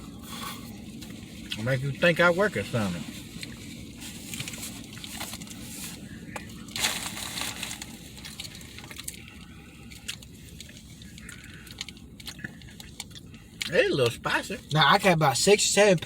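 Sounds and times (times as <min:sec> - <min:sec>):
wrappers crinkling: 0:00.1 - 0:13.2.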